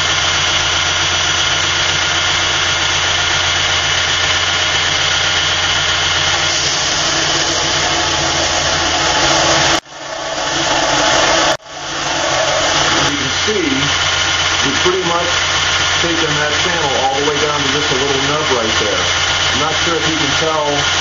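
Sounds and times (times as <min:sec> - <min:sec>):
belt grinder running: 0:00.0 - 0:21.0.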